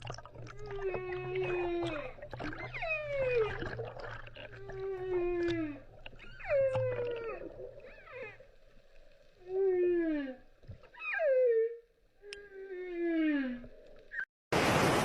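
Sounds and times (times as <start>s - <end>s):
whale moaning calls underwater: 0.2s - 14.1s.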